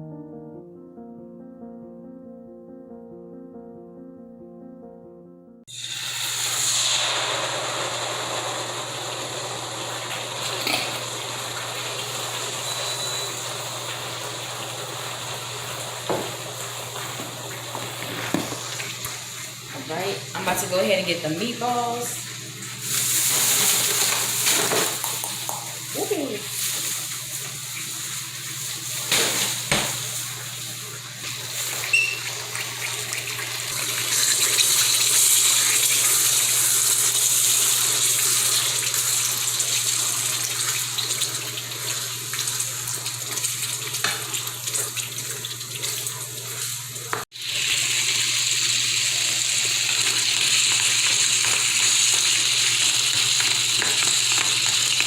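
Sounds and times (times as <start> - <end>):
meatballs sizzling in a pan: 5.7 - 55.0.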